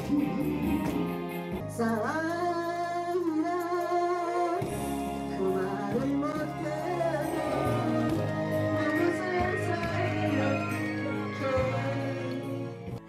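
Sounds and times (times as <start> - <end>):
backing music track: 0.0 - 13.0
woman singing into a microphone: 1.6 - 12.8.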